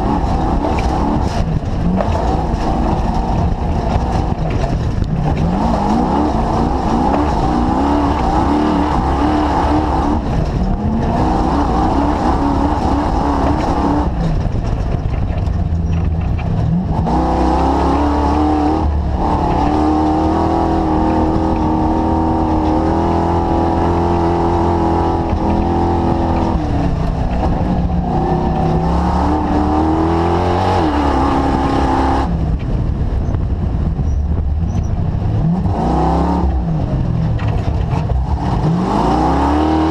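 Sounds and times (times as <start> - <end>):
engine running with gear changes: 0.0 - 39.9.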